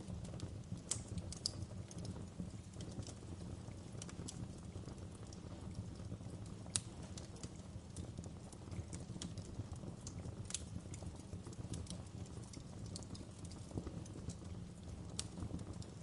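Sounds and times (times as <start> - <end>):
low rumble of flames: 0.0 - 16.0
wood fire pops and snaps: 0.0 - 16.0.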